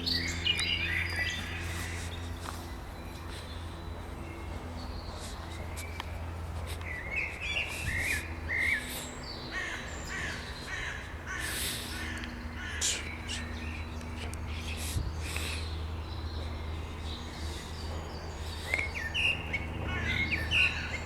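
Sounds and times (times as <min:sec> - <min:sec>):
birds chirping: 0:00.0 - 0:21.0
scattered bird calls: 0:00.0 - 0:21.0
steady low hum: 0:00.0 - 0:21.0.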